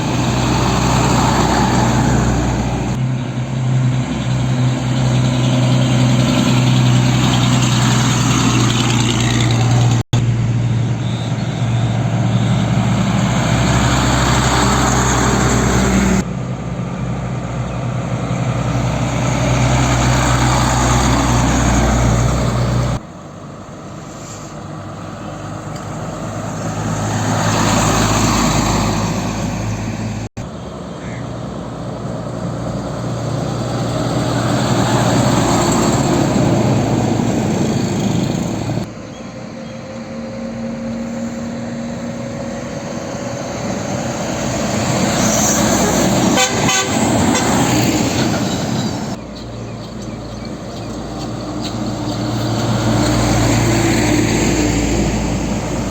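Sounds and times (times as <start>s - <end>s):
heavy diesel truck engines: 0.0s - 55.9s.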